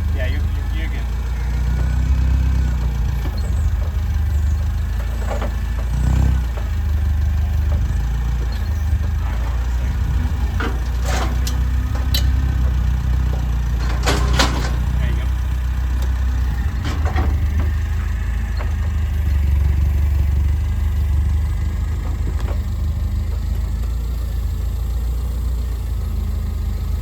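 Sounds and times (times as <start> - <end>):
sharp rattles and clanks: 0.0 - 27.0
vehicle engine running: 0.0 - 27.0.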